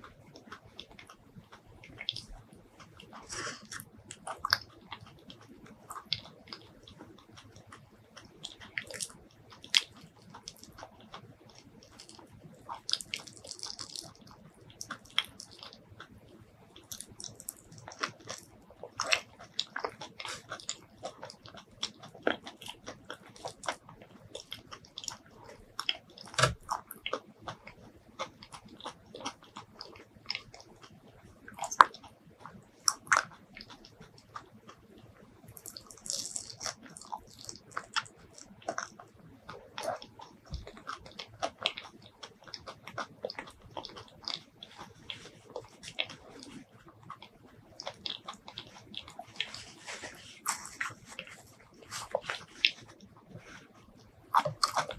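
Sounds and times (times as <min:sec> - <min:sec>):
wet chewing mouth sounds: 0:00.0 - 0:54.9.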